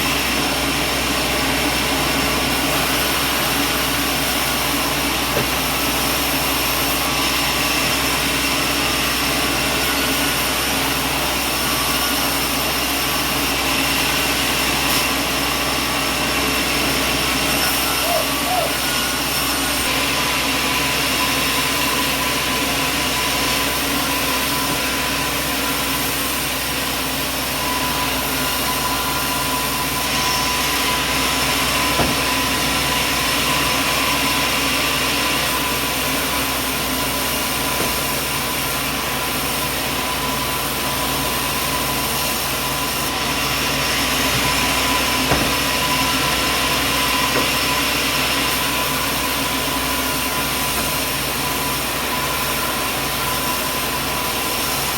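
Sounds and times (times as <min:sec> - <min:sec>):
machinery engine-like drone: 0:00.0 - 0:54.9.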